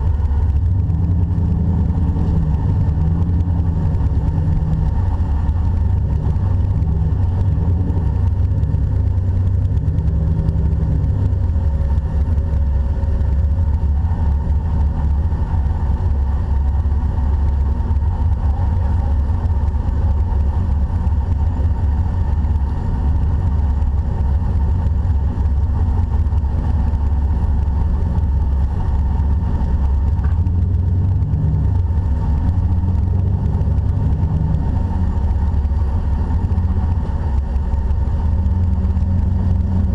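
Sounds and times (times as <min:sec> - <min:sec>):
engine running at low revs: 0:00.0 - 0:39.9.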